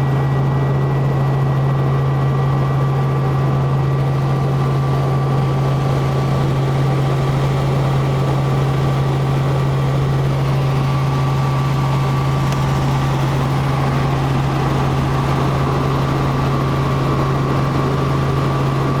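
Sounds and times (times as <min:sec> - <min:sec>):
helicopter drone: 0:00.0 - 0:19.0.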